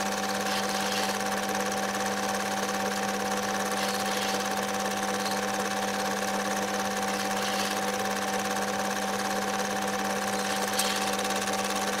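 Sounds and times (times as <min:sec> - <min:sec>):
film advancing clatter: 0:00.0 - 0:12.0
film projector whirring: 0:00.0 - 0:12.0.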